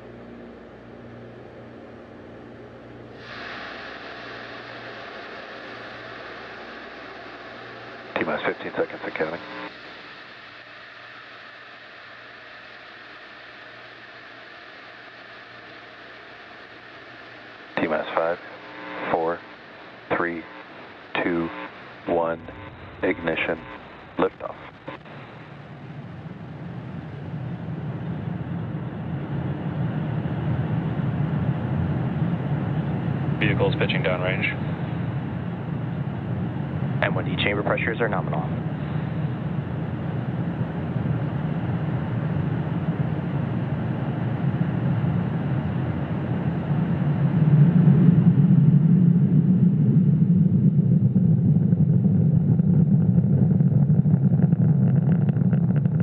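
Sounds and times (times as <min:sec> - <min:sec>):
rocket engines rumbling at liftoff: 0:00.0 - 0:56.0.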